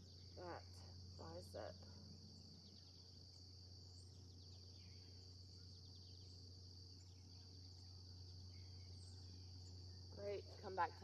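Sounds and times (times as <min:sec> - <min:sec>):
faint bird chirps: 0:00.0 - 0:10.7
low steady hum: 0:00.0 - 0:11.0.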